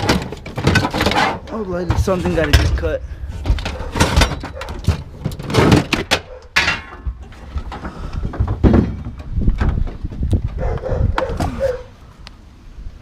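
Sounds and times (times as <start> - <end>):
tools and metal clattering: 0.0 - 11.8.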